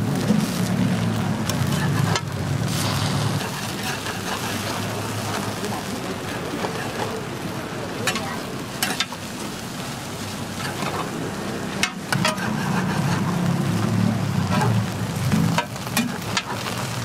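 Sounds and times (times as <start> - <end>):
toast sizzling on griddle: 0.0 - 17.0.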